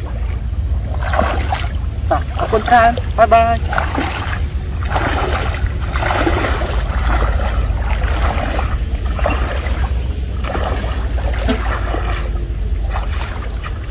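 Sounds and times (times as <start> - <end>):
feet splashing through water: 0.0 - 13.9
steady low rumble: 0.0 - 13.9.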